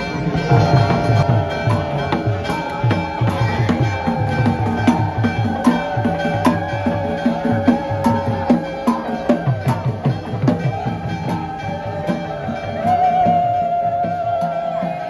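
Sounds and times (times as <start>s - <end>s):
drums beating quick rhythm: 0.0s - 15.0s
wind instrument melody: 0.0s - 15.0s.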